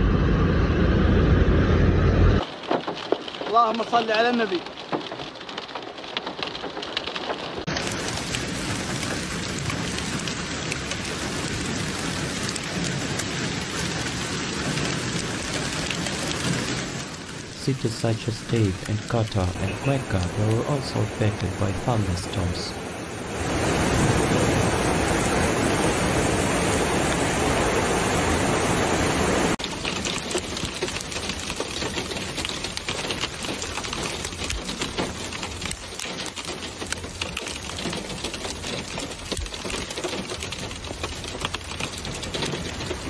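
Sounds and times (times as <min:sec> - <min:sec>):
heavy rain roaring: 0:00.0 - 0:43.0.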